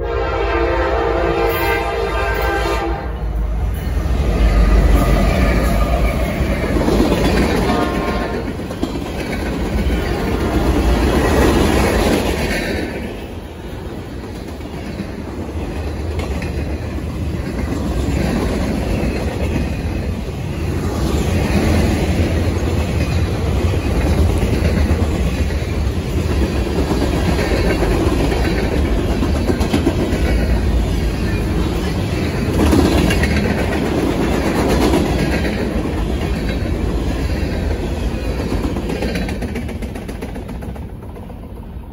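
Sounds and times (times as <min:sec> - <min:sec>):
freight train cars rumbling past: 0:00.0 - 0:41.9.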